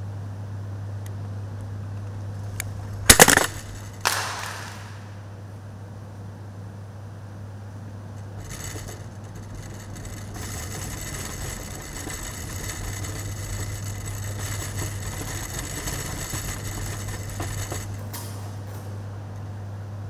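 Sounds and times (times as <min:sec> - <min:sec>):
electrical background hum: 0:00.0 - 0:20.0.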